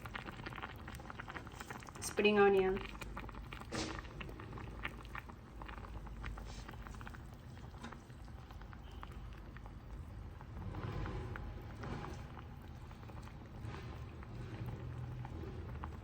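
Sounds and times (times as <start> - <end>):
soup bubbling in a pot: 0.0 - 16.0.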